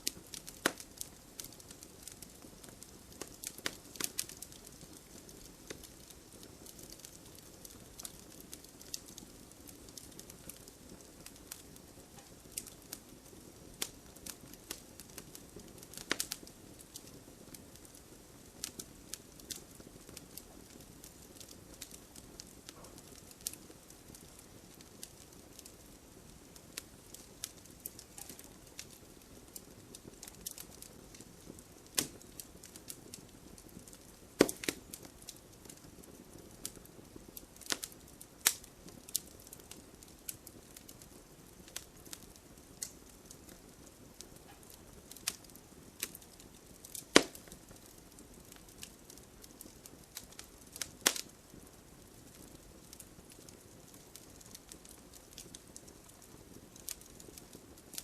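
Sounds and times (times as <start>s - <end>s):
soft hiss of flames: 0.0s - 58.0s
wood fire crackling and popping: 0.0s - 58.0s.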